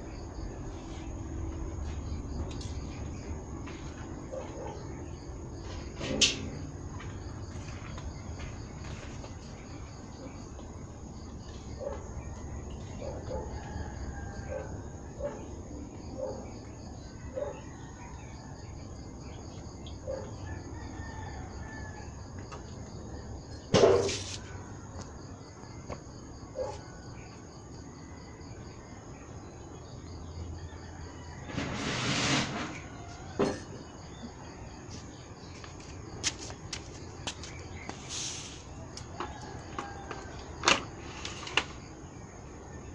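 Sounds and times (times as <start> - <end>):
pulsing insect chorus: 0.0 - 42.9.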